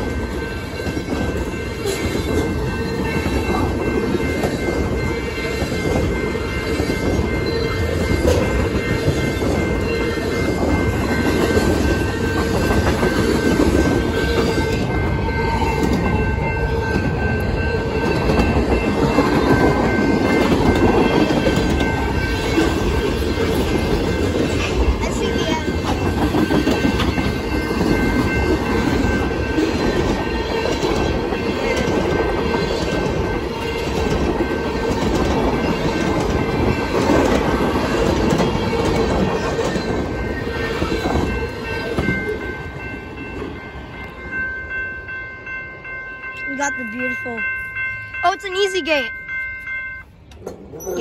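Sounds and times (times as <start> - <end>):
train wheels clattering on rails: 0.0 - 44.4.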